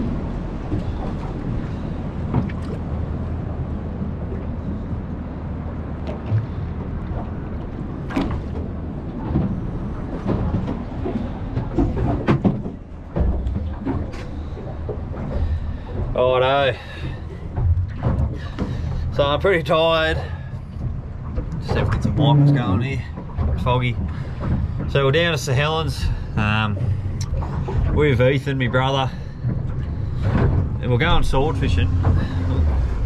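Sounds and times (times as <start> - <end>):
boat engine drone: 0.0 - 33.0
water washing along hull: 0.0 - 33.0.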